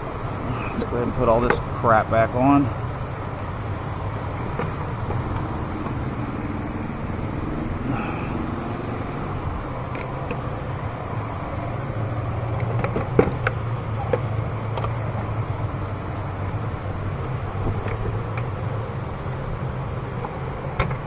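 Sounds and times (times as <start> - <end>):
engine parts clicking and knocking: 0.0 - 21.0
steady low hum: 0.0 - 21.0.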